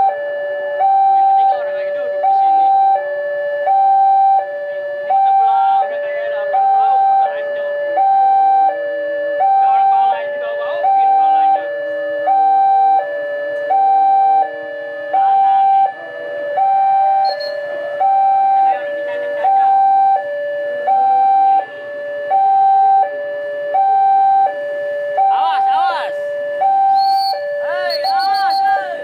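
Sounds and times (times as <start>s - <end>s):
two-tone crossing warning alarm: 0.0s - 29.0s.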